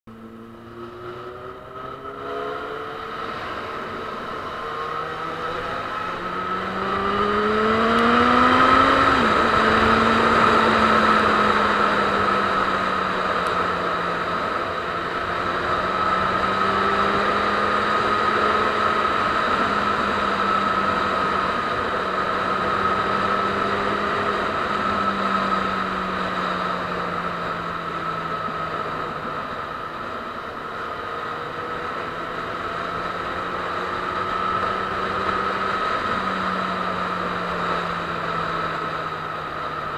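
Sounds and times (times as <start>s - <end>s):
motorcycle engine accelerating: 0.1s - 39.9s.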